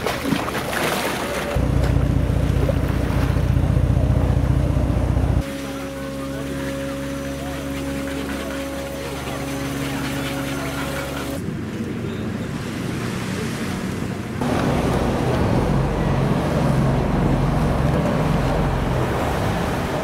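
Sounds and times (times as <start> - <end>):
engine hum: 0.0 - 20.0
surf washing: 0.0 - 20.0
deep diesel engine rumble: 1.2 - 13.1, 13.7 - 20.0.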